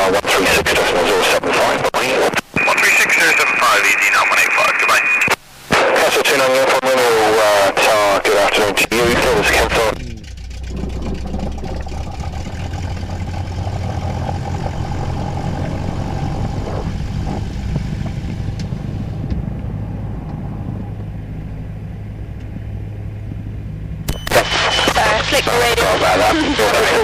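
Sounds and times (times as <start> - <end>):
plane engine idling: 2.5 - 27.0.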